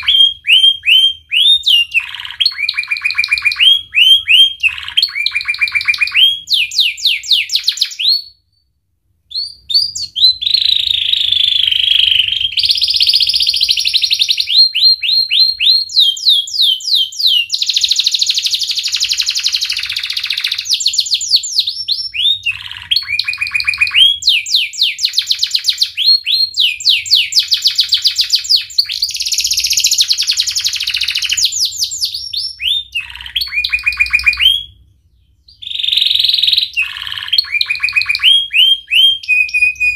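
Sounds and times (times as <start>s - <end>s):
canary singing trills: 0.0s - 8.5s, 9.3s - 39.9s.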